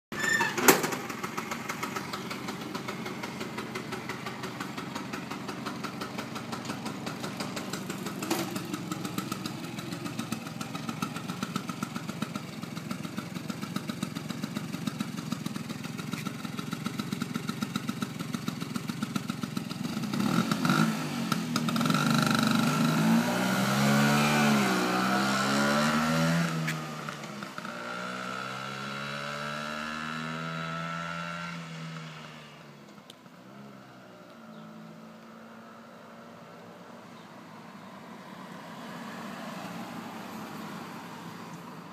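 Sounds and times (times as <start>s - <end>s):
scooter engine: 0.2s - 35.6s.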